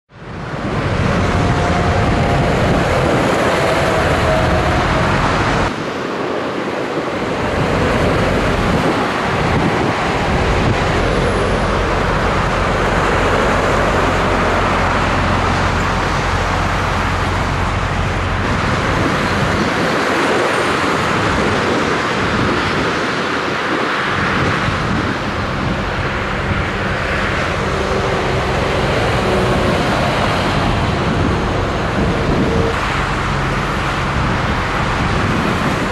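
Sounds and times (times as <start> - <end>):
heavy trucks passing: 0.1 - 35.9
low engine drone: 0.1 - 35.9
motorway traffic passing at speed: 0.1 - 35.9.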